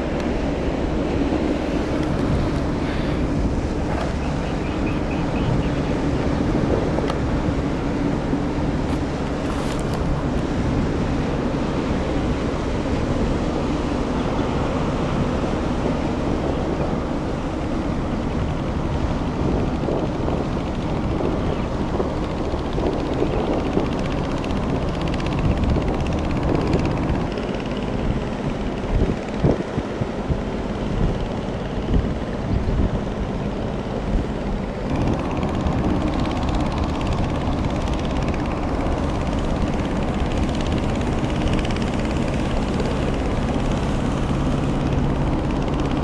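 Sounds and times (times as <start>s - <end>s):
ship low rumble: 0.0s - 46.0s
wind on microphone: 0.0s - 46.0s.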